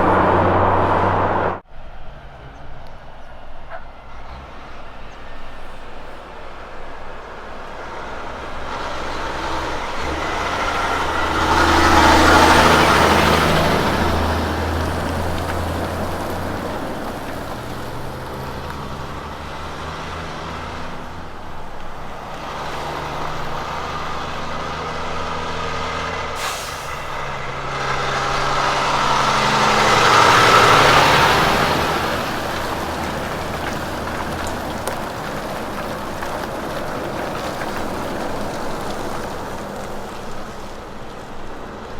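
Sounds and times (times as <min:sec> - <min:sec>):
diesel truck passing by: 0:00.0 - 0:41.9
tyre and road noise: 0:00.0 - 0:41.9.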